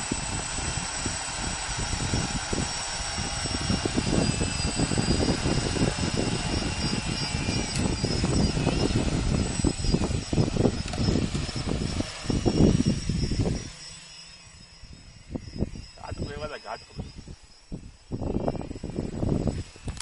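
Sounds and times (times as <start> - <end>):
wind rumble on microphone: 0.0 - 13.8, 14.8 - 20.0
quadcopter motors whining: 0.0 - 20.0.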